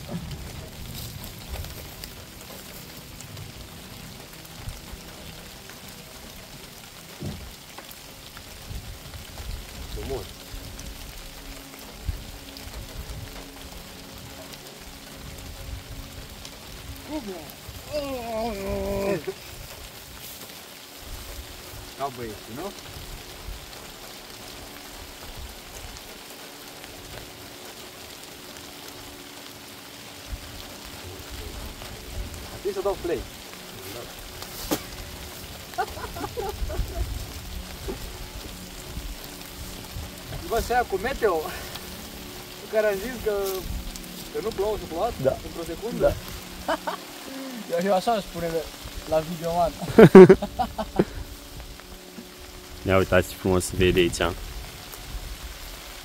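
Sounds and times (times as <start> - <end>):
raindrops ticking: 0.0 - 56.0
steady rain falling: 0.0 - 56.0.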